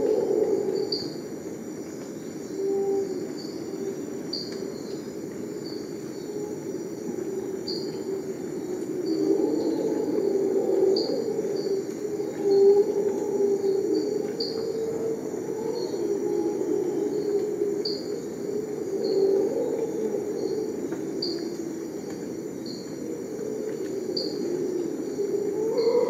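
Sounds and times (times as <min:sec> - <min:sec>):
high chorus of insects: 0:00.0 - 0:26.0.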